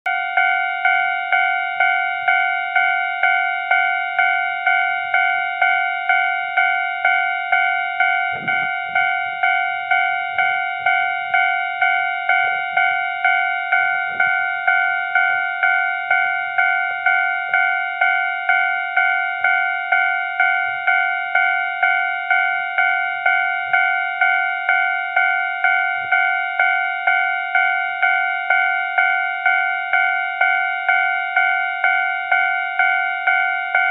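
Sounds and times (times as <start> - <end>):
level crossing bell ringing: 0.1 - 33.9.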